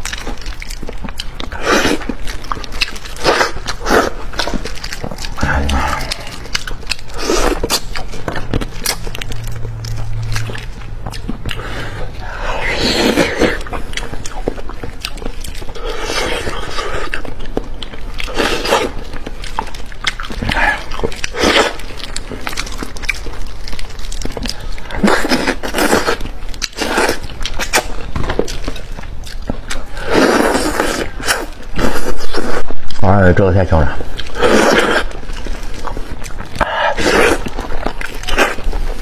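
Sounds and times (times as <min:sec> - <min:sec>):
person chewing wetly: 0:00.0 - 0:33.0, 0:33.9 - 0:39.0.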